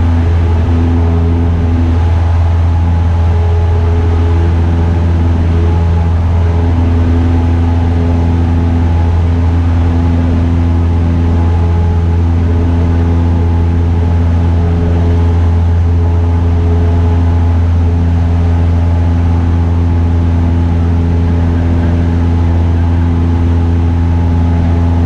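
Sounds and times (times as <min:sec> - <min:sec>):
light airplane engine droning: 0:00.0 - 0:25.0.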